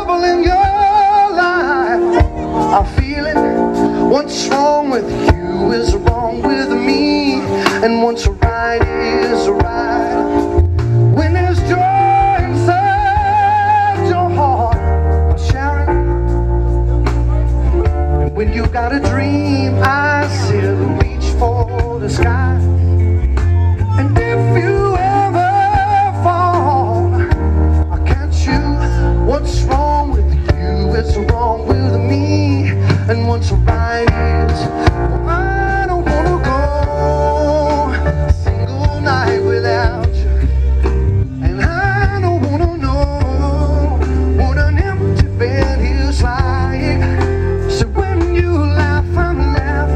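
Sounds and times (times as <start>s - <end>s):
bass line: 0.0s - 49.9s
electric guitar: 0.0s - 49.9s
live band playing soul-rock: 0.0s - 49.9s
man singing with vibrato: 0.0s - 49.9s.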